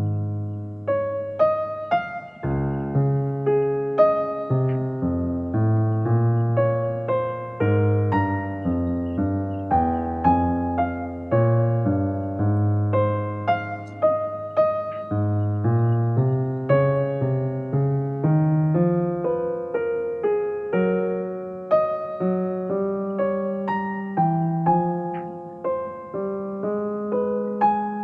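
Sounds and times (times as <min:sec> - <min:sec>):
soft piano music: 0:00.0 - 0:28.0.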